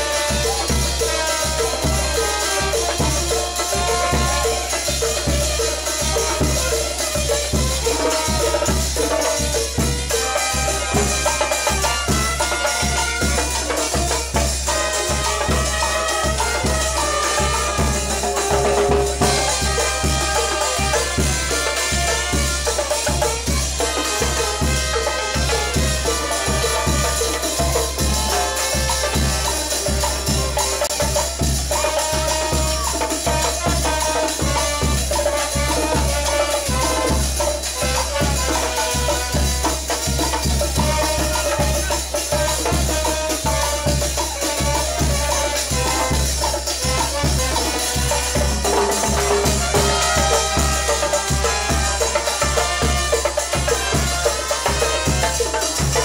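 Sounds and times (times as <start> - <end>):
brass horn lines: 0.0 - 56.0
drum kit beat: 0.0 - 56.0
live dance band playing: 0.0 - 56.0.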